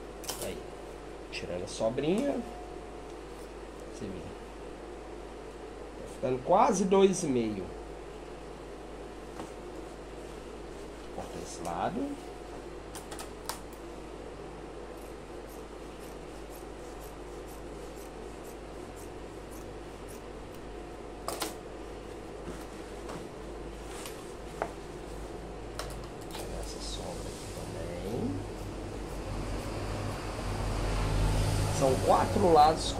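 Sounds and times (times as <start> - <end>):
steady background hum: 0.0 - 32.9.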